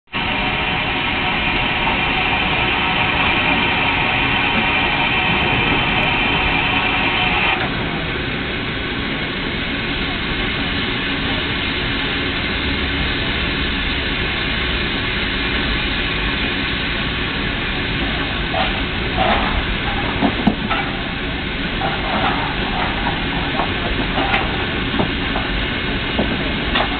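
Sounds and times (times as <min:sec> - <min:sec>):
crowd chatter: 0:00.1 - 0:26.9
high steam hiss: 0:00.1 - 0:26.9
steam locomotive hissing: 0:00.1 - 0:26.9.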